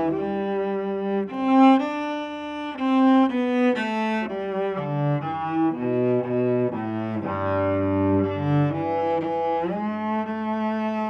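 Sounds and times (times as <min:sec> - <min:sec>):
bowed cello melody: 0:00.0 - 0:11.0.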